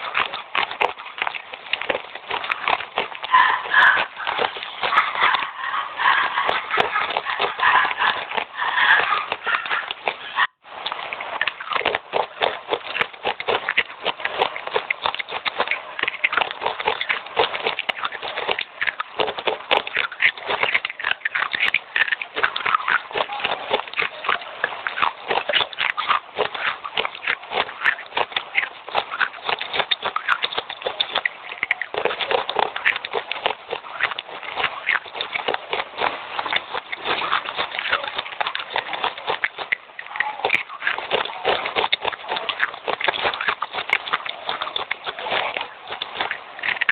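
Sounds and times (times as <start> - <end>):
wet crunching and chewing: 0.0 - 46.9.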